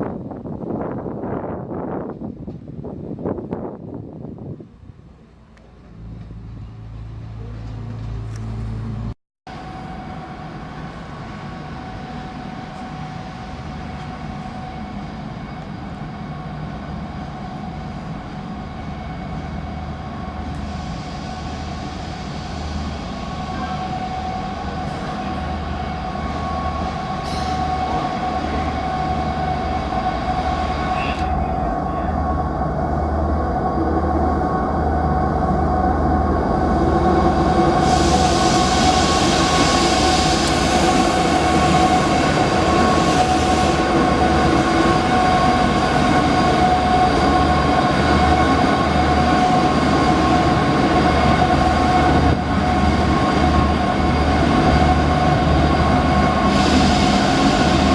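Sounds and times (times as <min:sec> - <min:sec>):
diesel train whine: 0:00.0 - 0:57.9.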